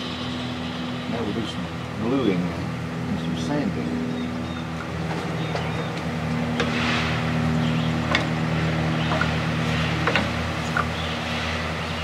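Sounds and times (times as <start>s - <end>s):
band saw motor running: 0.0s - 12.0s.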